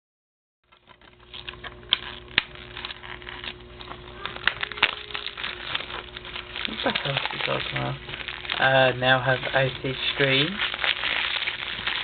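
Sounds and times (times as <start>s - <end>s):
plastic wrapping crinkling: 0.7s - 12.0s
steady low hum: 0.7s - 12.0s.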